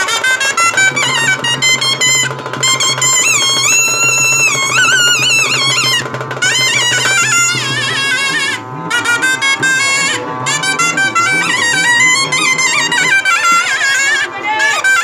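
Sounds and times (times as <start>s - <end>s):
held drone: 0.0s - 15.0s
wind instrument melody: 0.0s - 15.0s.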